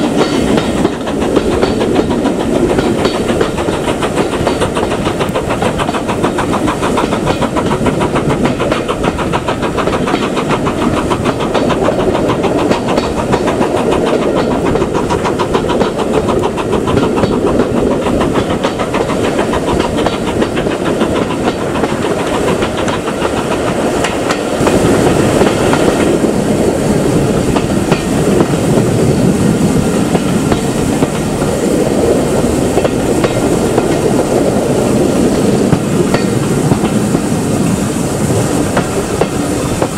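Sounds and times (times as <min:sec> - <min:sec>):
steam train rumbling: 0:00.0 - 0:39.9
wheels clicking over rail joints: 0:00.0 - 0:39.9.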